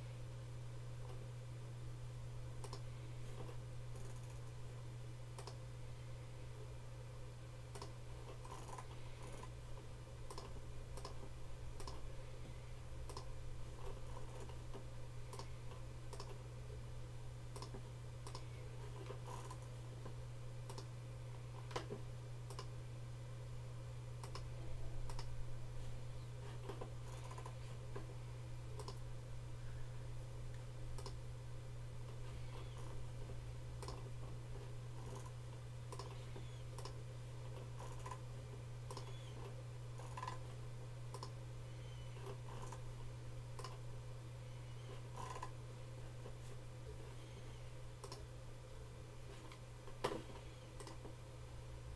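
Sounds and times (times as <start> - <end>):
low electrical hum: 0.0 - 51.9.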